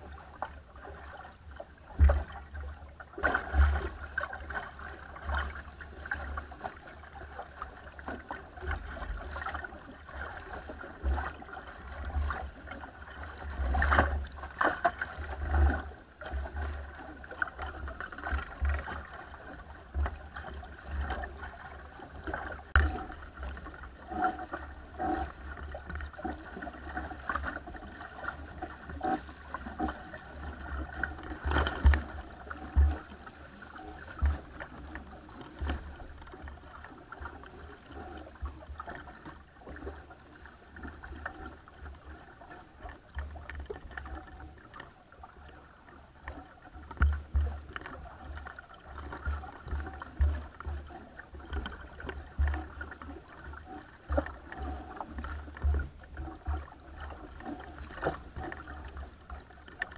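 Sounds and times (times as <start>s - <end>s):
water slapping against boat bow: 0.0s - 59.9s.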